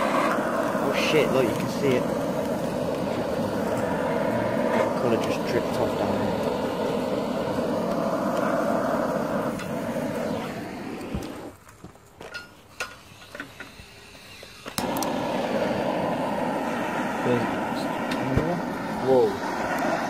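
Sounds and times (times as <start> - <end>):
blowtorch flame roaring: 0.0 - 20.0.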